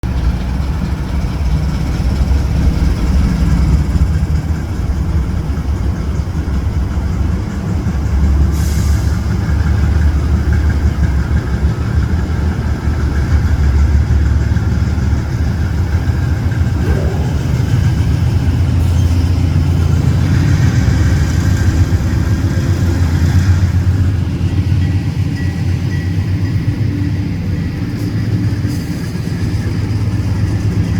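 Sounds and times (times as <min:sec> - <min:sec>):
freight train rumbling by: 0:00.0 - 0:30.9.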